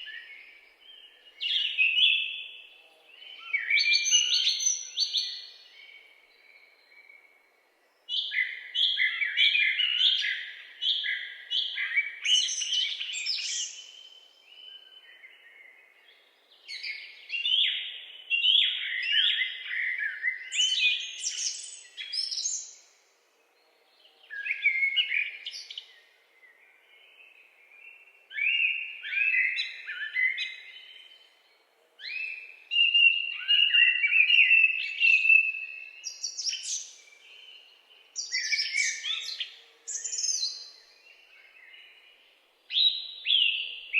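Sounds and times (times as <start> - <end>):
songbird chirping: 0.0 - 43.9.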